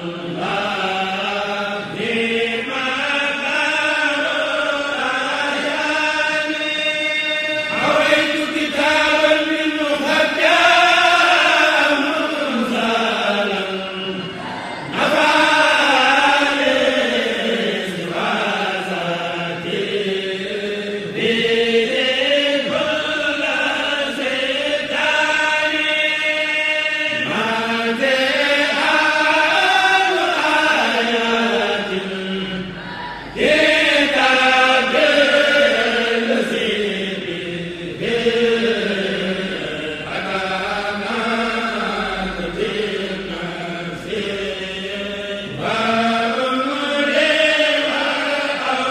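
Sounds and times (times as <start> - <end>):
voices chanting a poem: 0.0 - 48.9.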